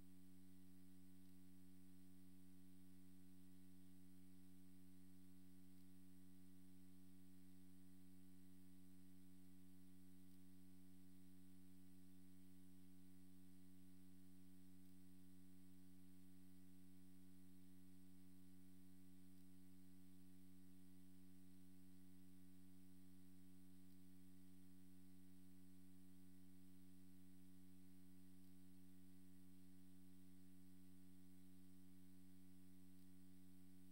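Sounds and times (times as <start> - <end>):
faint electrical hum: 0.0 - 33.9.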